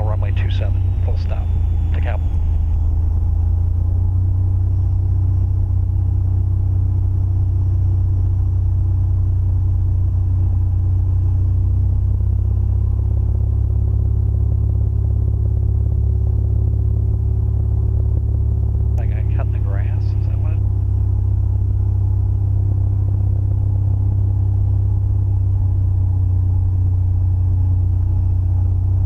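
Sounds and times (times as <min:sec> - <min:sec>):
airplane engine droning in cabin: 0:00.0 - 0:29.0.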